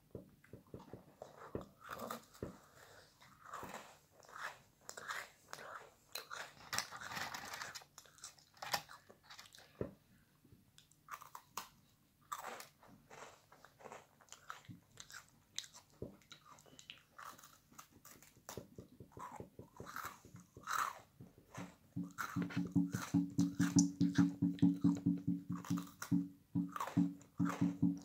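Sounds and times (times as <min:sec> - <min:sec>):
crunching biscuit: 0:00.8 - 0:09.8, 0:10.8 - 0:28.0.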